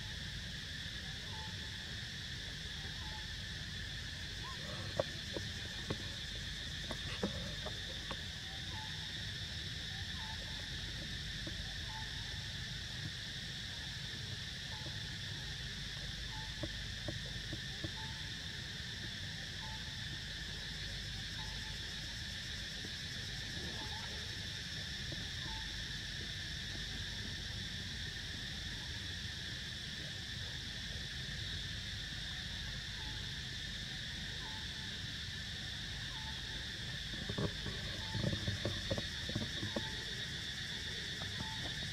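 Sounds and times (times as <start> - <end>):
insect chorus buzzing: 0.0 - 41.9.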